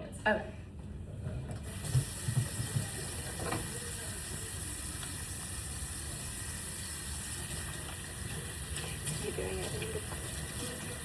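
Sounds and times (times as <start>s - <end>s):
tap water running into sink: 1.6s - 11.0s.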